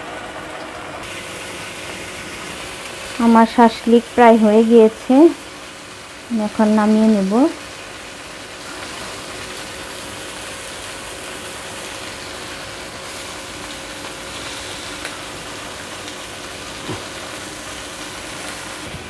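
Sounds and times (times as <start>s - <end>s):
meat sizzling in a pan: 0.2s - 19.0s.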